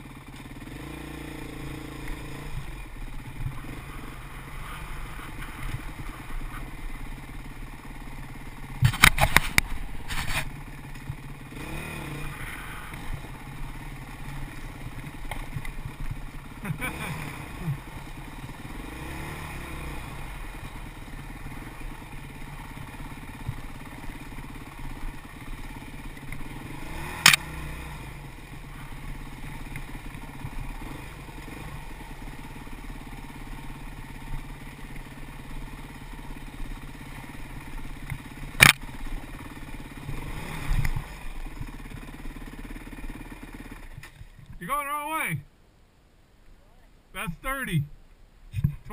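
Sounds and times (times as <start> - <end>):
dirt bike engine revving: 0.0 - 45.5.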